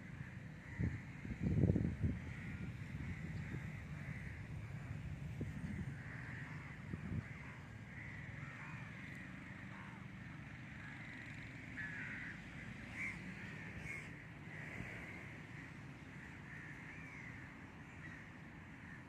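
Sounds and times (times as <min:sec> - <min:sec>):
birds calling: 0:00.0 - 0:10.2, 0:10.8 - 0:19.0.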